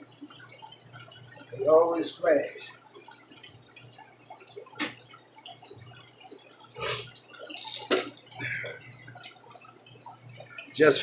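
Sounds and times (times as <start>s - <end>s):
water trickling and dripping: 0.0s - 11.0s.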